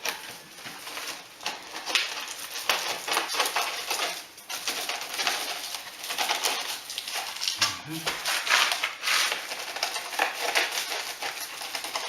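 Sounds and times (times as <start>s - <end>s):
pipe scraping against brick: 0.0s - 12.0s.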